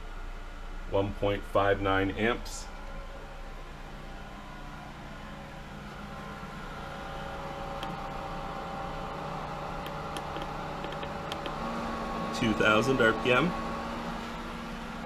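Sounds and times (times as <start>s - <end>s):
pool pump motor hum and whine: 0.0s - 15.0s.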